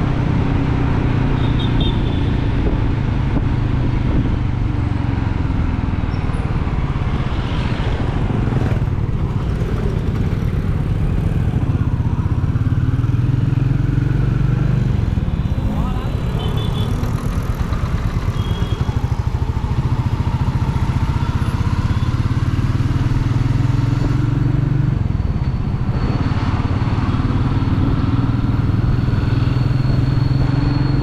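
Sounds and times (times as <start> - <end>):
motorcycle engine and exhaust: 0.0 - 31.0.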